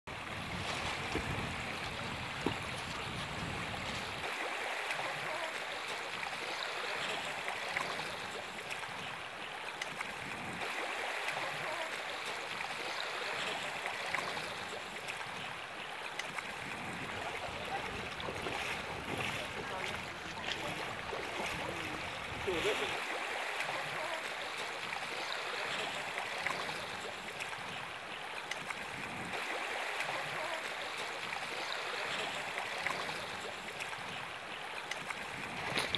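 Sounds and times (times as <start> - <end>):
small waves washing: 0.1 - 35.9
water splashing and lapping: 0.1 - 35.9.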